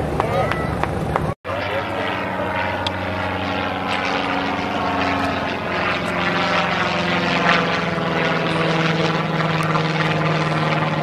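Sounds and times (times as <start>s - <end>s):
light aircraft engine and propeller: 0.0s - 11.0s.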